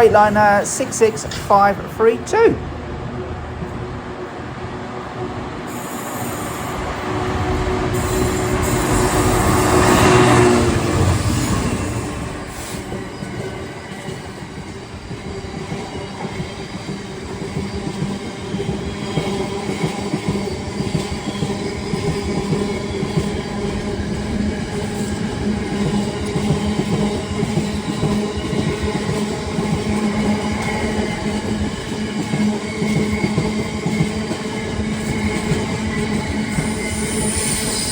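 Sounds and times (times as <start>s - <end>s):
diesel locomotive engine: 0.0s - 37.9s.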